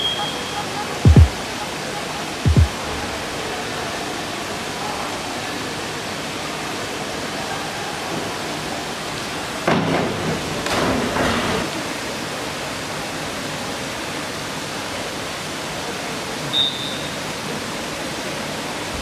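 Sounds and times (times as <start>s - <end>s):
swimming pool hall hiss: 1.8s - 19.0s.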